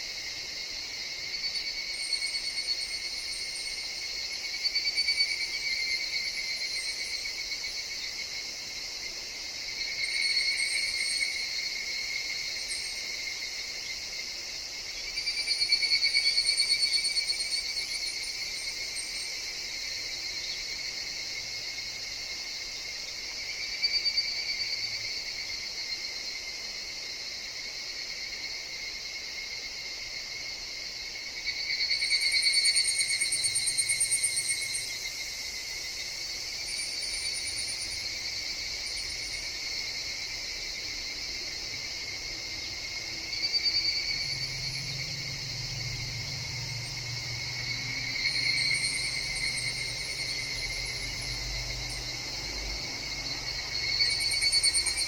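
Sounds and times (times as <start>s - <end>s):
cicadas calling: 0.0s - 55.0s.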